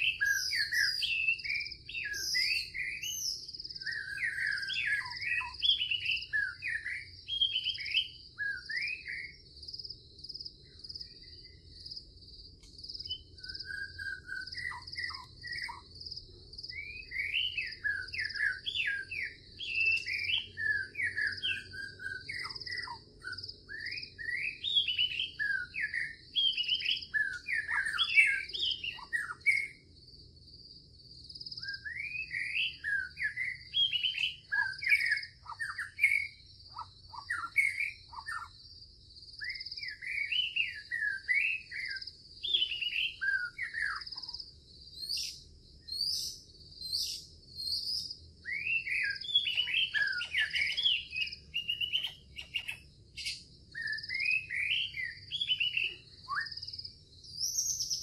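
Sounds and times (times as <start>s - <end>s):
insect trill: 0.0s - 58.0s
songbirds chirping and singing: 0.0s - 58.0s.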